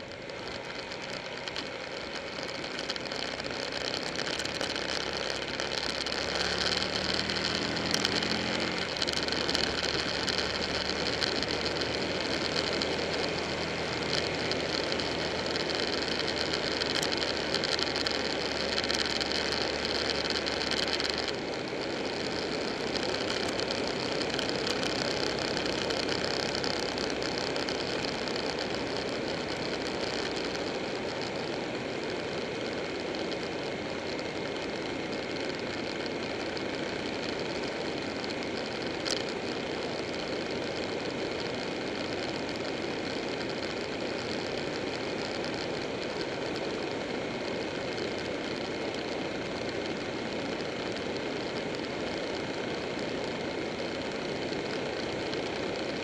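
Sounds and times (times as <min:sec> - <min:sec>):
motorcycle engine running: 0:00.0 - 0:56.0
wind rush on camera: 0:00.0 - 0:56.0.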